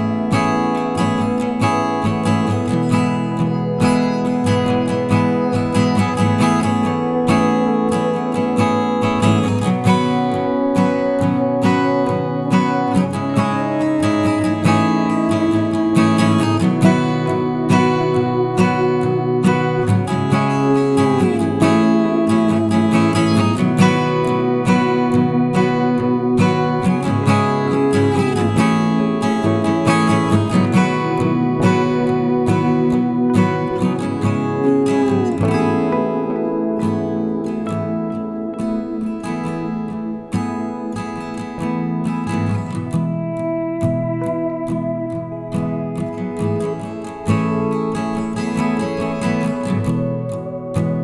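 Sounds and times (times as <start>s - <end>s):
strummed acoustic guitar: 0.0s - 51.0s.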